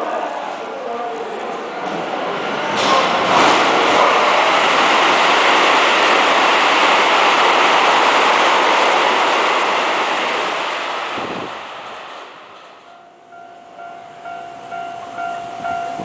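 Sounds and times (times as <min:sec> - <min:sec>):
electric train passing at speed: 0:00.0 - 0:16.0.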